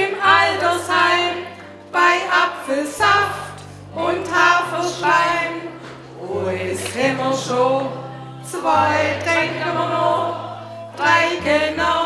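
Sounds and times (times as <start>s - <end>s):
women singing: 0.0s - 12.0s.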